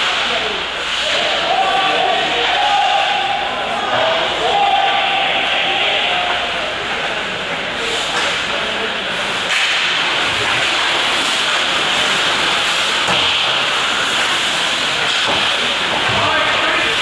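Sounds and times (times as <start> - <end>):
players' voices: 0.0 - 17.0.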